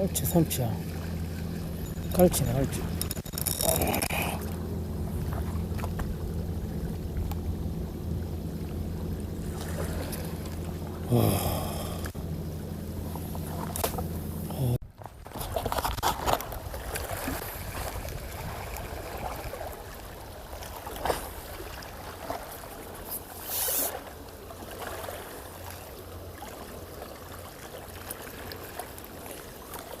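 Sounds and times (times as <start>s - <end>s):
faint water wash: 0.0s - 14.8s, 16.4s - 30.0s
low engine hum: 0.0s - 30.0s.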